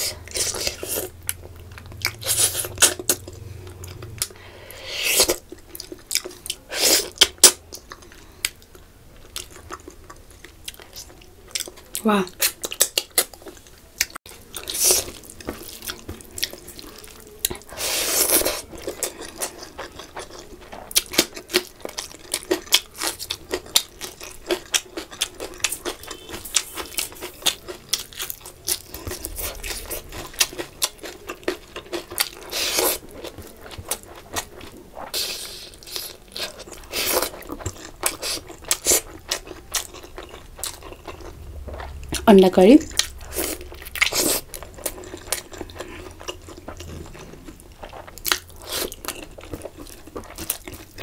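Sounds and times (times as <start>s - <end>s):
chewing and crunching food: 0.0s - 51.0s.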